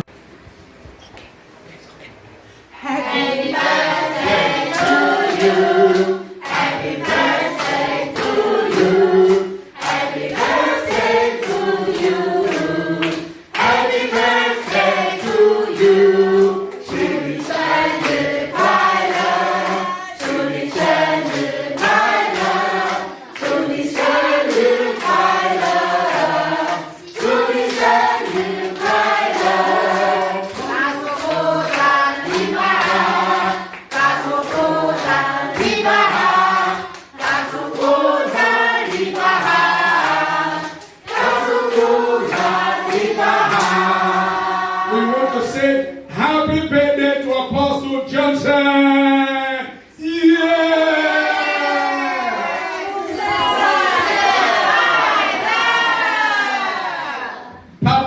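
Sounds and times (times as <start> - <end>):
group of people singing: 2.7 - 48.5, 49.3 - 58.0.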